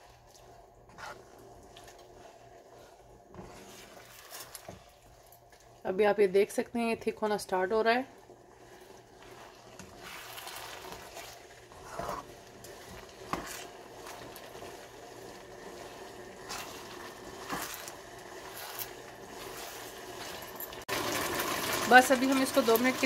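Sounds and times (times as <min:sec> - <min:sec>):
sauce sizzling and bubbling: 0:00.0 - 0:06.6, 0:07.3 - 0:23.0.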